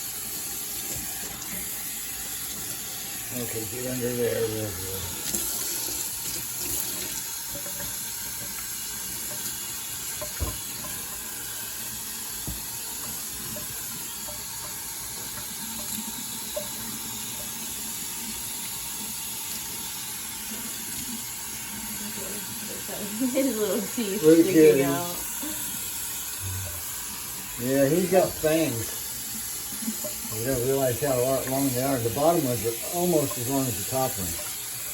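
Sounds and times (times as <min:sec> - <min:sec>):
tap water splashing: 0:00.4 - 0:03.2, 0:05.1 - 0:22.0, 0:24.2 - 0:34.9.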